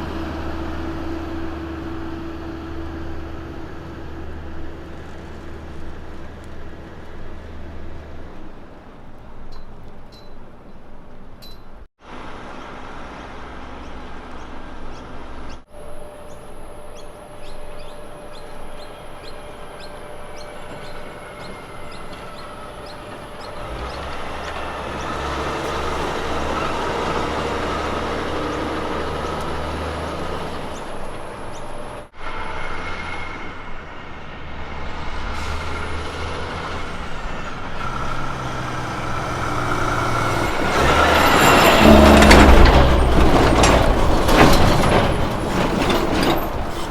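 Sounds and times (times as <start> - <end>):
truck diesel engines running: 0.0 - 46.9.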